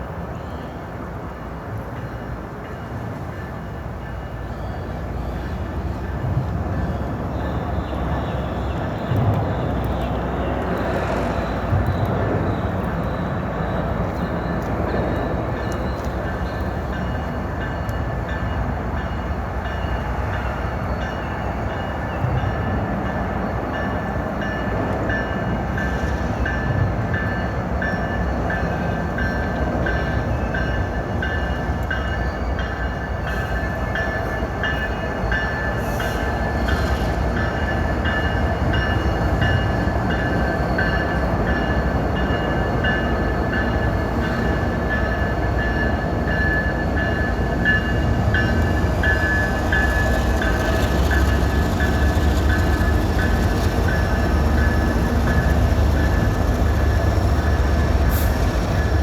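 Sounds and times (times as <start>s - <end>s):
train cars rumbling over bridge: 0.0s - 59.0s.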